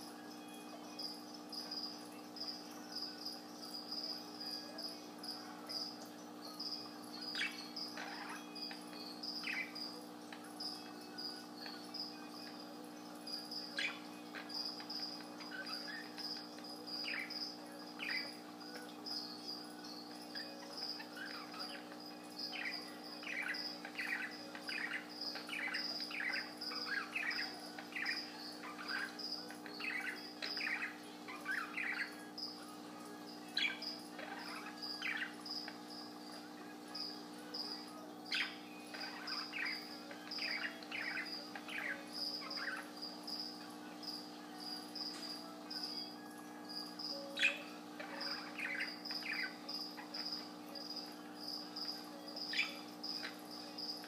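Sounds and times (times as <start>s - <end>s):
high-pitched pulsing chirp: 0.0s - 54.0s.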